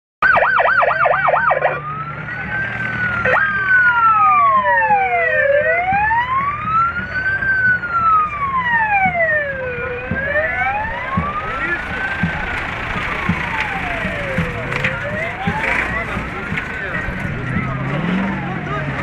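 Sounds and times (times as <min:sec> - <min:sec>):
vehicle siren warbling and wailing: 0:00.2 - 0:19.0.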